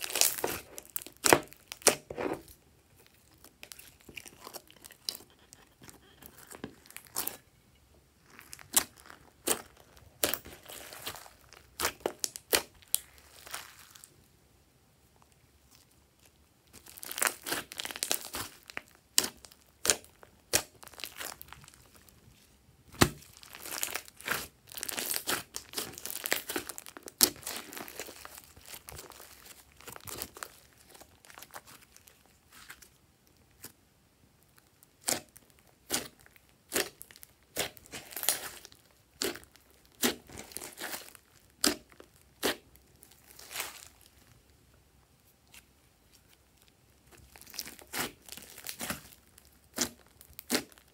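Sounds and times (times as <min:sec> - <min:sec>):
slime squishing: 0:00.0 - 0:07.6, 0:08.2 - 0:14.1, 0:15.6 - 0:33.8, 0:34.5 - 0:44.4, 0:45.4 - 0:50.9.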